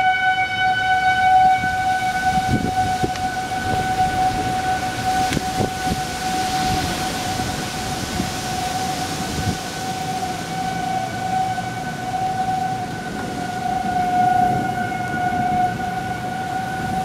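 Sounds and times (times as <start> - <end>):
tornado warning siren wailing: 0.0 - 17.0.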